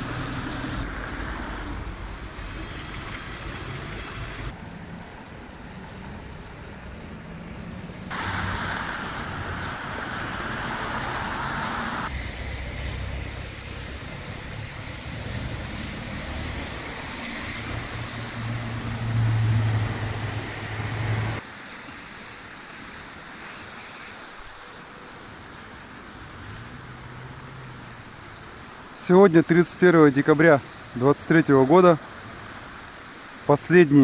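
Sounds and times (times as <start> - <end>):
low traffic rumble: 0.0 - 34.0.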